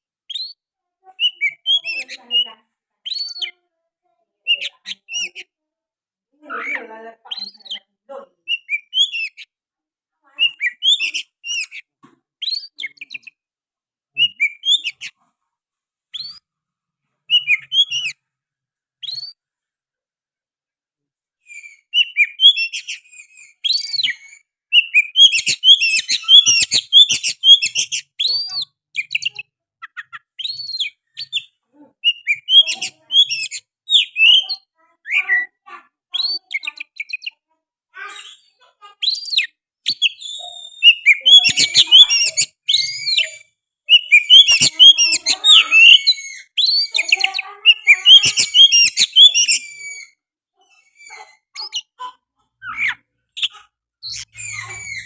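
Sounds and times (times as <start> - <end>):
magpie-robin singing: 0.3 - 3.6, 4.4 - 5.5, 6.6 - 9.5, 10.4 - 13.4, 14.2 - 15.2, 16.1 - 16.5, 17.3 - 18.2, 19.0 - 19.4, 21.5 - 55.0.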